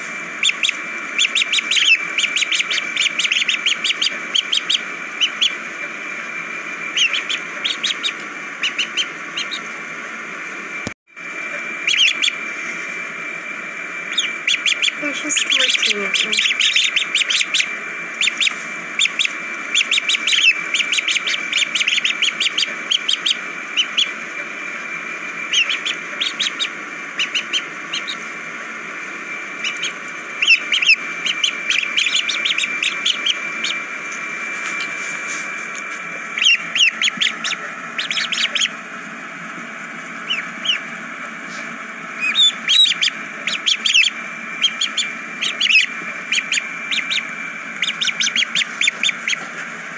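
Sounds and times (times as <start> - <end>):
ducklings peeping: 0.0 - 10.0, 11.5 - 12.6, 14.0 - 49.9.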